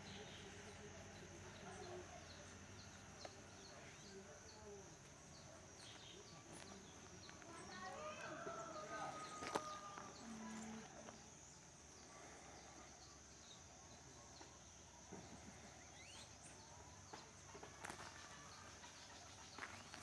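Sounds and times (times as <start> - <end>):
faint bird chirps: 0.0 - 20.0
high-pitched insect hum: 0.0 - 20.0.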